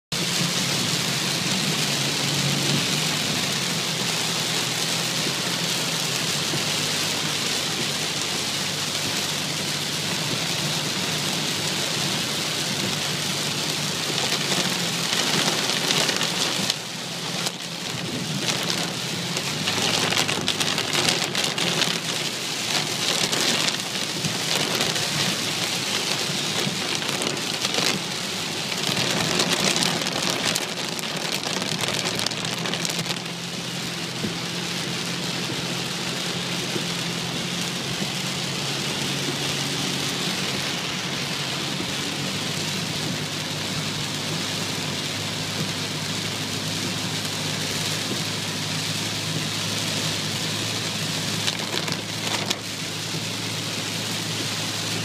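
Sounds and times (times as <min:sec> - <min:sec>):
heavy rain on car roof: 0:00.1 - 0:55.0
faint low car hum: 0:00.2 - 0:55.0.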